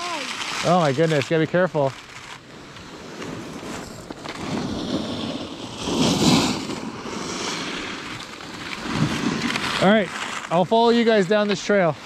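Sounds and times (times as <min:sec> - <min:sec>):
skis scraping over snow: 0:00.0 - 0:12.0.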